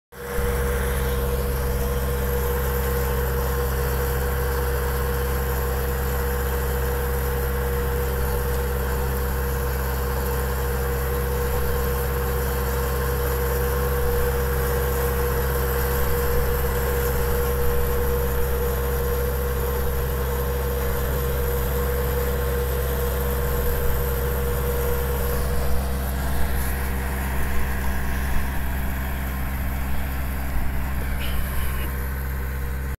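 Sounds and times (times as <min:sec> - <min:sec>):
tractor engine running: 0:00.1 - 0:33.0
steady machine whine: 0:00.2 - 0:33.0.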